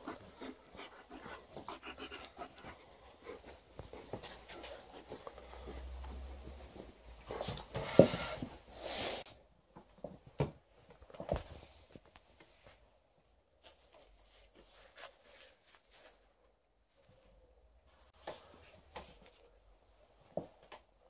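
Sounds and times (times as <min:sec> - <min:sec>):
plush toys and bedding rustling: 0:00.0 - 0:21.0.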